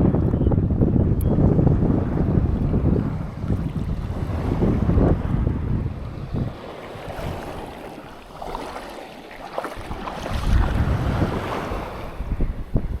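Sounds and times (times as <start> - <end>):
wind buffeting microphone: 0.0 - 13.0
surf breaking on beach: 2.1 - 13.0.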